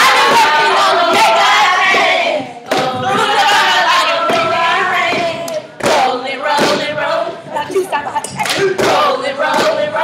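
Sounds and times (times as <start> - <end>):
group chanting in unison: 0.0 - 7.6, 8.5 - 10.0.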